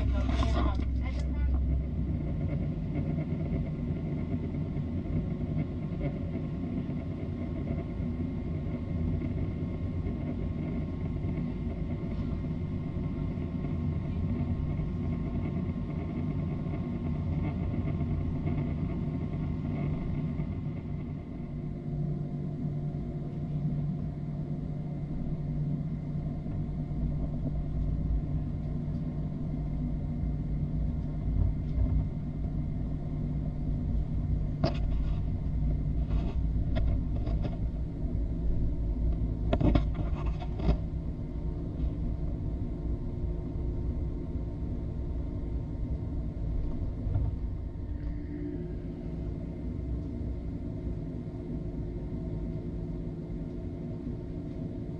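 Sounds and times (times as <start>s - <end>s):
airliner engine rumble: 0.0s - 54.9s
faint steady tones: 0.0s - 54.9s.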